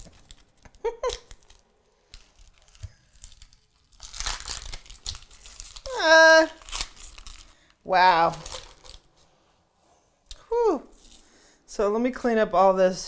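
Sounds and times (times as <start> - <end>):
onion skin crackling: 0.0 - 9.4, 10.2 - 11.4.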